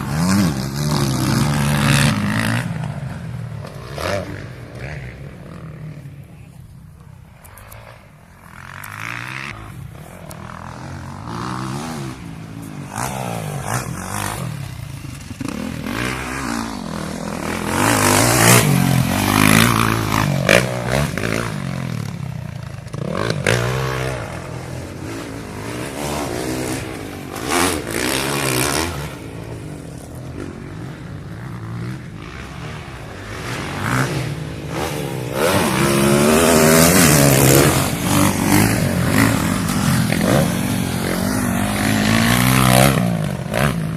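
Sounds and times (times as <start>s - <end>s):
motocross bike engine revving: 0.0s - 6.1s, 7.8s - 43.9s.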